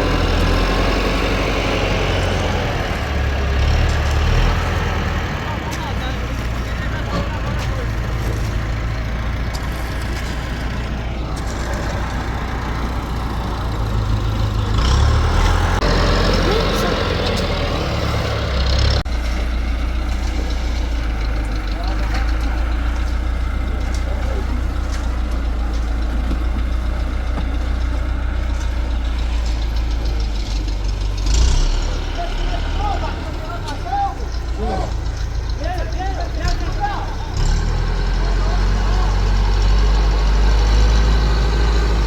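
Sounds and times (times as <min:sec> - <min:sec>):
heavy engine humming: 0:00.0 - 0:42.0.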